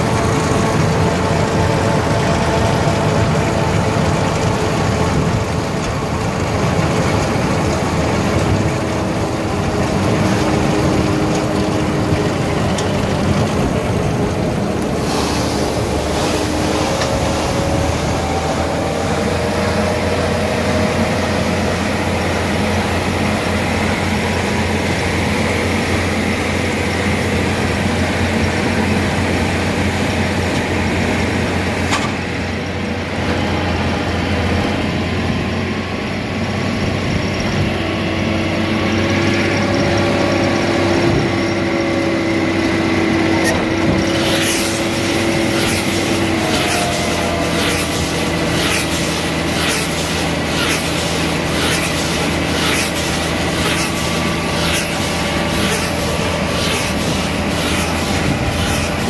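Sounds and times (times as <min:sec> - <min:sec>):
baler machinery drone: 0:00.0 - 0:59.0.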